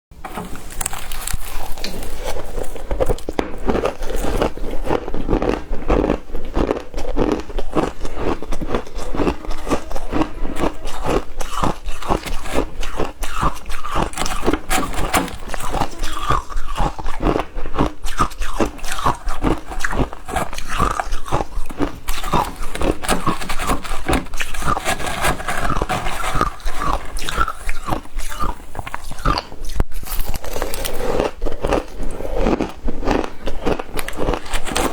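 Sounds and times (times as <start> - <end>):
ice crunching while chewed: 0.3 - 34.9.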